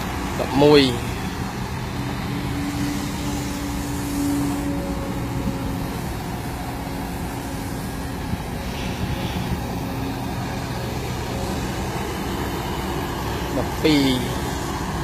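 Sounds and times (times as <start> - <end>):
hydraulic excavator running: 0.0 - 15.0.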